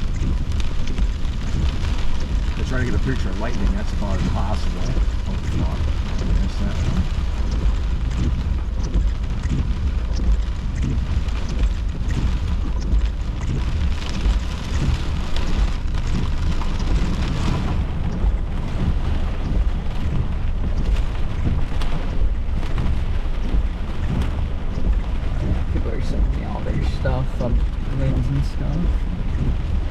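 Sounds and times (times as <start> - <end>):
heavy rain pelting a car: 0.0 - 29.9
low rumble of wind: 0.0 - 29.9.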